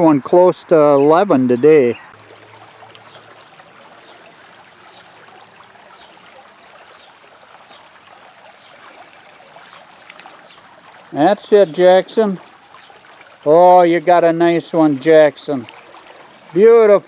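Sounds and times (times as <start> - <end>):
stream water trickling: 0.0 - 17.0.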